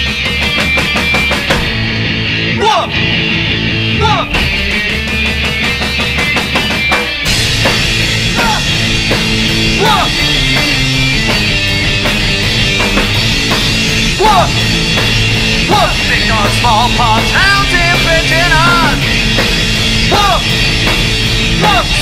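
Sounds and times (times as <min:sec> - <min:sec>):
drum hits: 0:00.0 - 0:22.0
punk rock band playing: 0:00.0 - 0:22.0.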